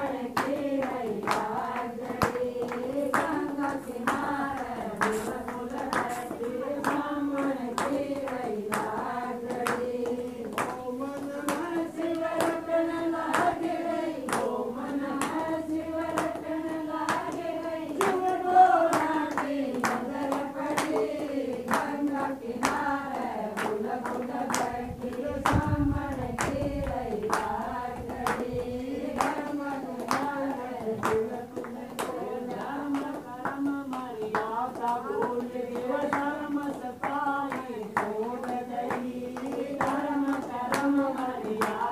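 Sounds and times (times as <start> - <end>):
hand claps: 0.0 - 41.9
women singing in unison: 0.0 - 41.9.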